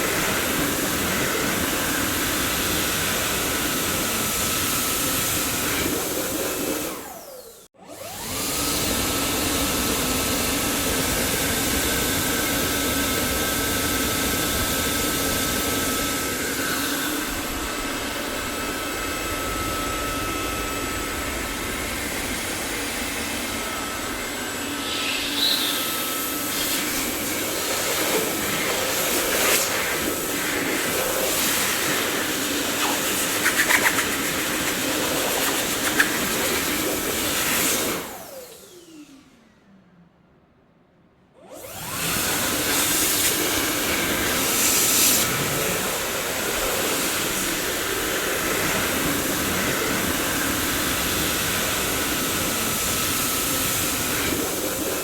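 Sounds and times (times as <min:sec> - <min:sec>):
vacuum cleaner running: 0:00.0 - 0:39.6, 0:41.4 - 0:55.0.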